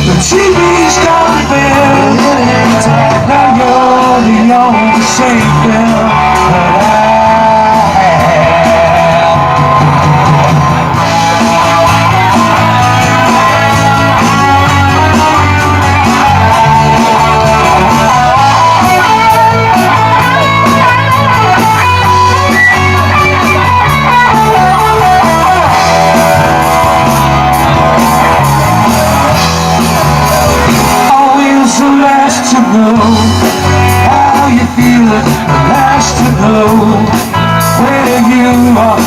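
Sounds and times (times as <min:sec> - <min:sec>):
electric guitar melody: 0:00.0 - 0:39.0
live rock band playing: 0:00.0 - 0:39.0.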